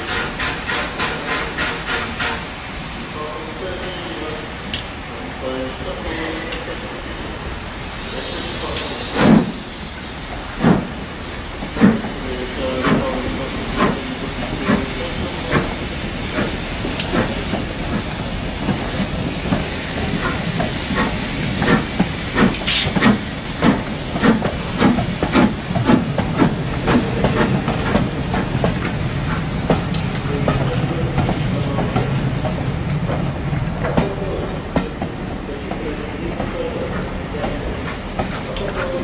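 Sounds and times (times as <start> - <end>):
train wheels clicking and knocking: 0.0 - 2.5, 8.6 - 39.0
train hissing: 0.0 - 39.0.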